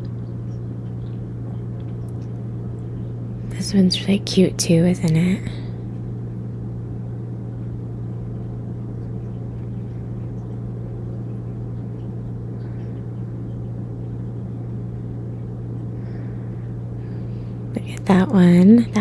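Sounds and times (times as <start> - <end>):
low shop background hum: 0.0 - 19.0.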